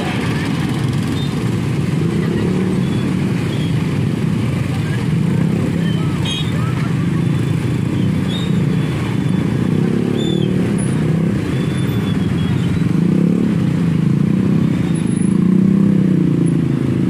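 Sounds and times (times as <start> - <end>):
motorcycle engines in traffic: 0.0 - 17.0.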